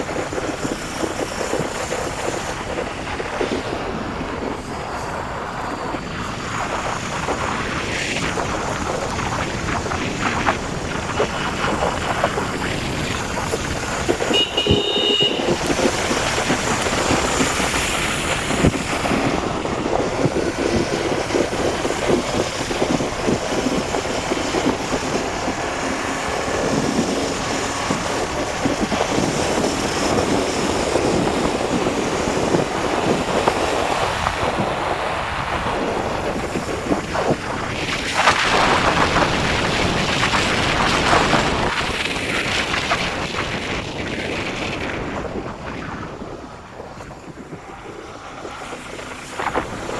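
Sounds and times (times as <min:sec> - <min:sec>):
motorcycle engine and road noise: 0:00.0 - 0:49.9
wind rushing over microphone: 0:00.0 - 0:49.9.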